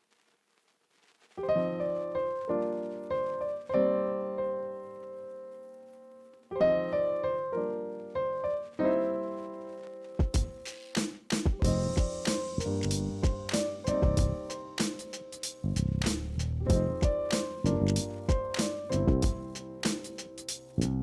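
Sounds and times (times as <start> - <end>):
piano music: 1.4 - 10.9, 11.5 - 21.0.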